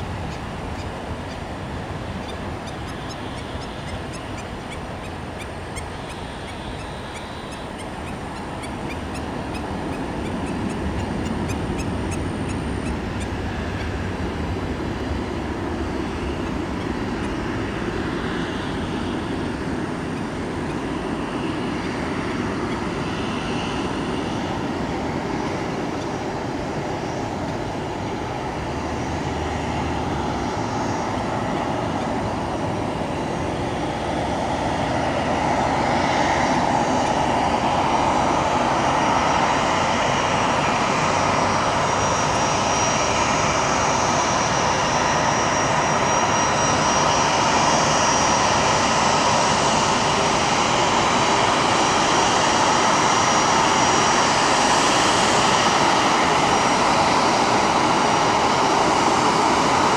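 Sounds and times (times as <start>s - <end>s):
jet airliner whine and rumble: 0.0s - 59.9s.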